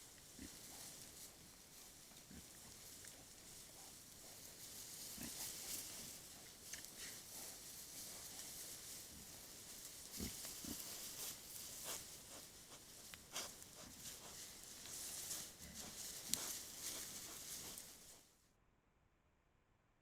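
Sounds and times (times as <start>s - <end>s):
wild boar grunting: 0.0s - 18.2s
rustling and clicks: 0.1s - 18.2s.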